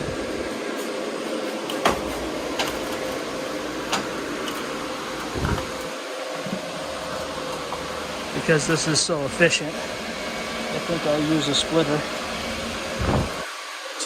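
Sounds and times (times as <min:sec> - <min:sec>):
cooling fans whirring: 0:00.0 - 0:14.0.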